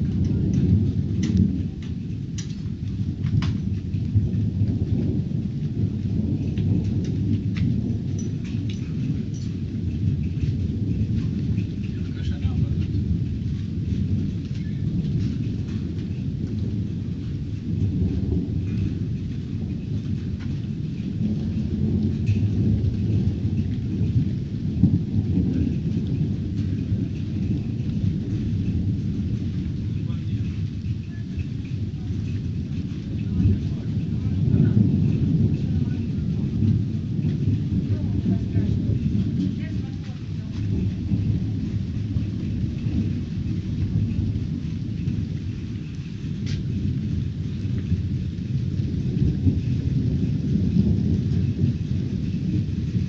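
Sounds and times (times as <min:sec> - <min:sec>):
rain falling: 0:00.0 - 0:53.0
thunder rumbling: 0:00.0 - 0:53.0.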